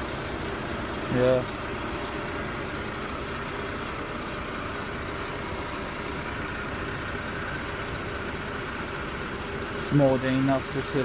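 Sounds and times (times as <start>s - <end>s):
heavy machinery engine running: 0.0s - 11.0s.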